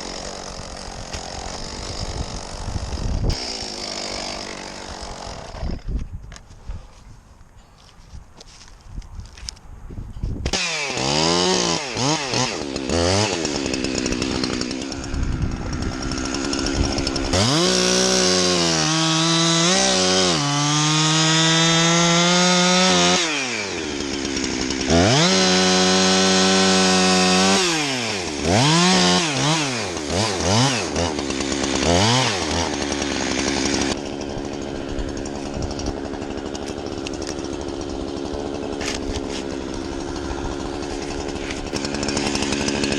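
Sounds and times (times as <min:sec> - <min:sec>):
chainsaw revving: 0:00.0 - 0:05.9, 0:10.5 - 0:42.9.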